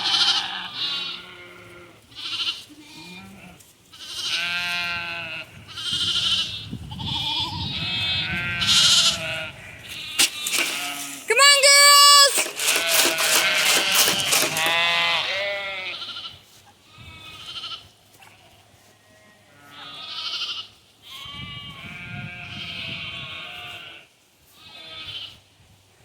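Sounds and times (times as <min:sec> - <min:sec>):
sheep bleating: 0:00.0 - 0:25.4.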